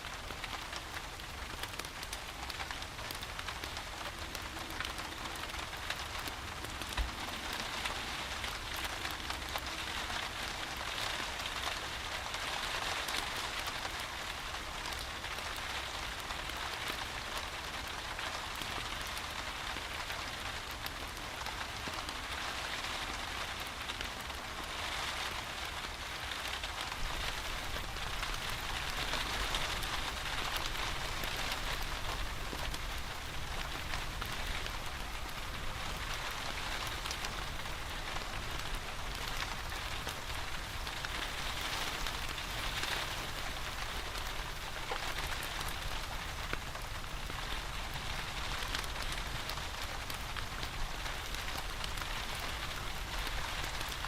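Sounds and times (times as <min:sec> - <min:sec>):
rain falling: 0:00.0 - 0:54.0
wood fire crackling: 0:00.0 - 0:54.0.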